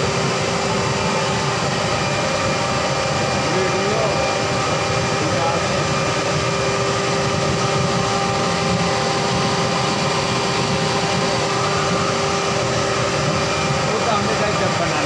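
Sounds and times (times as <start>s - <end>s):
water heater rushing hum: 0.0s - 15.0s.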